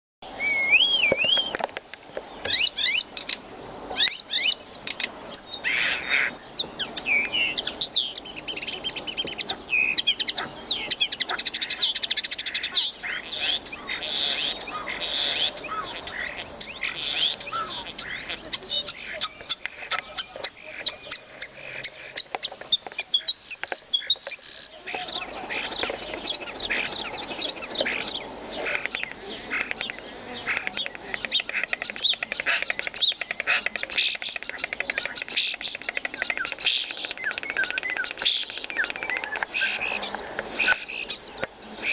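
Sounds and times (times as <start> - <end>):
songbird whistles and trills: 0.2 - 1.6, 2.3 - 3.3, 3.9 - 41.9.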